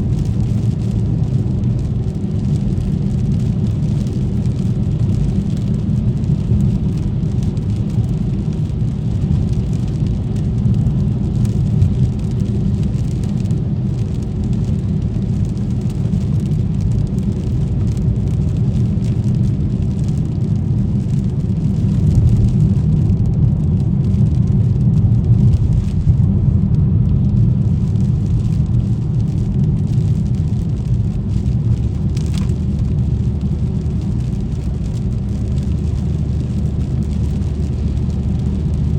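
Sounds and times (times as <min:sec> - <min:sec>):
car engine and tyres rumbling: 0:00.0 - 0:38.9
rain hiss on wet road: 0:00.0 - 0:38.9.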